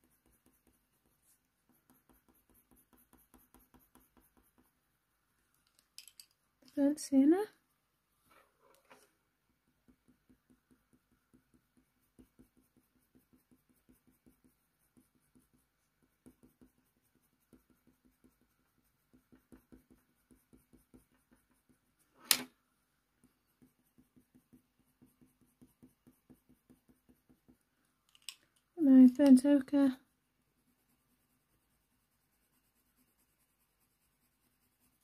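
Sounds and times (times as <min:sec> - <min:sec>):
coloured pencil scratching on paper: 0:00.0 - 0:04.8, 0:08.3 - 0:22.3, 0:23.2 - 0:27.7, 0:29.9 - 0:35.0.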